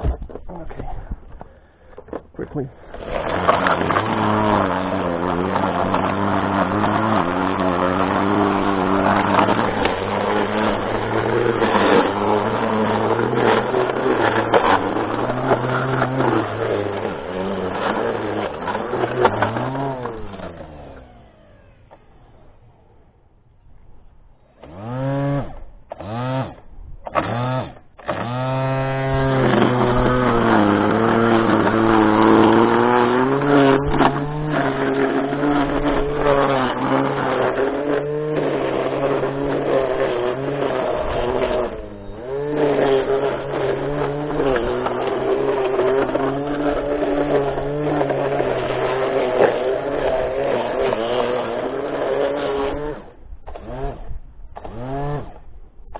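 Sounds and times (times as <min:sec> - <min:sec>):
small gasoline engine running: 0:00.0 - 0:23.3, 0:24.4 - 0:55.9.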